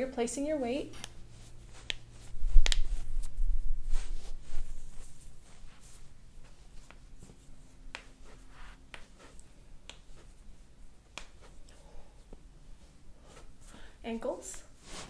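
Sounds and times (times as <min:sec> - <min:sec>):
faint rustling: 0:00.8 - 0:15.0.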